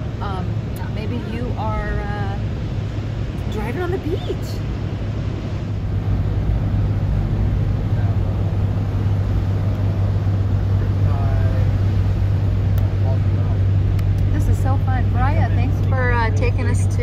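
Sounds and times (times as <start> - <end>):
truck engine and tyres on sand: 0.0 - 17.0.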